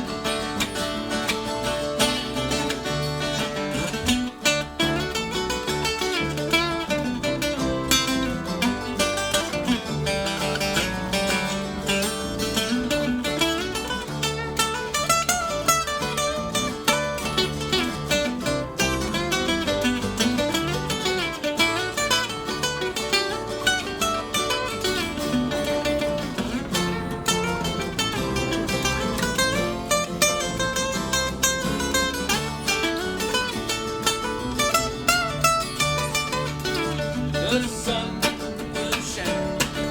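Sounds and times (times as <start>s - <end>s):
bass: 0.0s - 39.9s
mandolin runs: 0.0s - 39.9s
picked acoustic guitar: 0.0s - 39.9s
strummed rhythm guitar: 0.0s - 39.9s.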